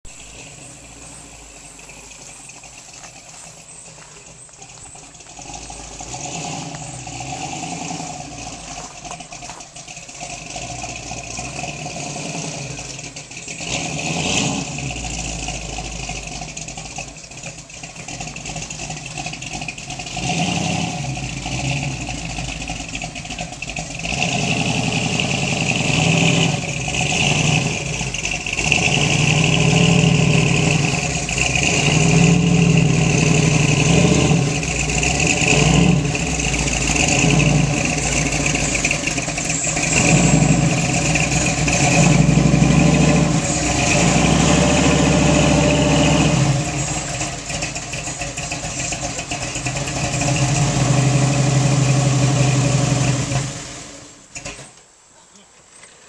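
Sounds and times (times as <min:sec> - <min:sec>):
car engine revving: 0:00.0 - 0:54.5.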